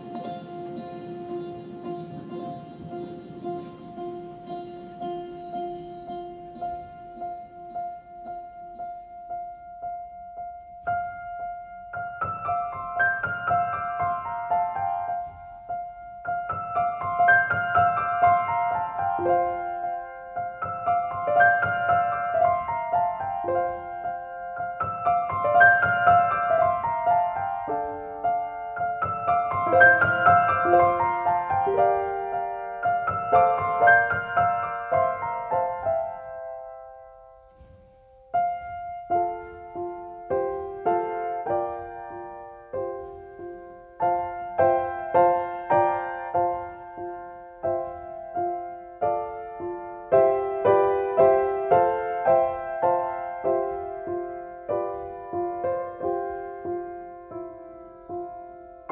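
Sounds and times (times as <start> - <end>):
gentle piano music: 0.0 - 58.9.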